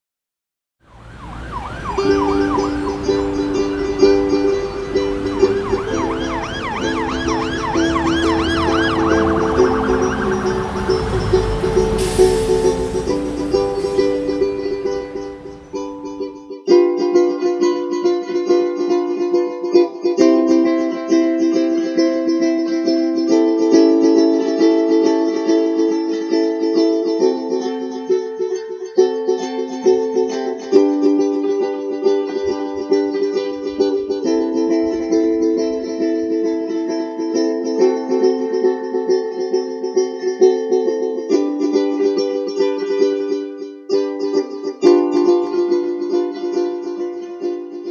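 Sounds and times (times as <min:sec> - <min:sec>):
ukulele strumming chords: 0:01.4 - 0:47.9.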